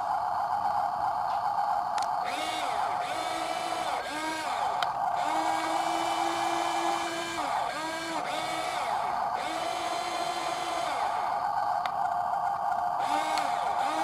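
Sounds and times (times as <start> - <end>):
model truck motors whining: 0.0 - 14.0.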